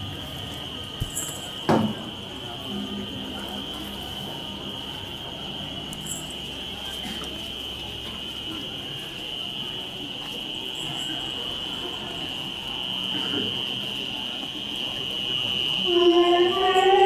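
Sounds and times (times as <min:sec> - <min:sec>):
crickets droning: 0:00.0 - 0:17.0
murmur of crowd voices: 0:00.0 - 0:17.0.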